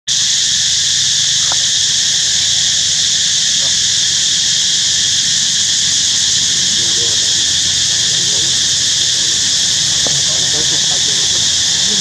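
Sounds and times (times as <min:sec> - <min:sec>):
insect chorus buzzing: 0:00.1 - 0:12.0.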